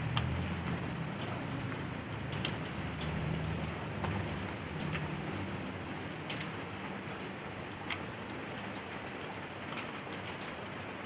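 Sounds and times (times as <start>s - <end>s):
man chewing food: 0.0s - 10.5s.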